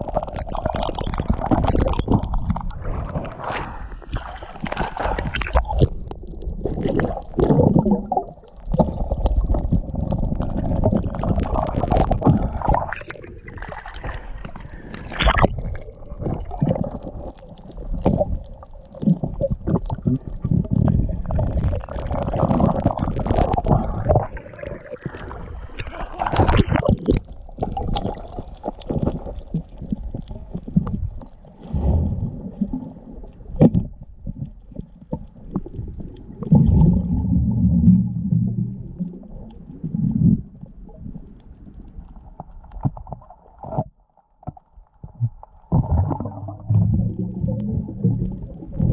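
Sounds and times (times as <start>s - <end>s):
underwater rumbling and gurgling: 0.0s - 48.9s.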